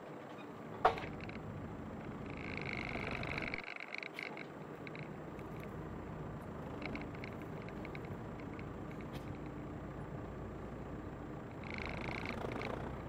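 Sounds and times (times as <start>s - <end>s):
tractor diesel engine running: 0.2s - 3.7s, 4.3s - 13.0s.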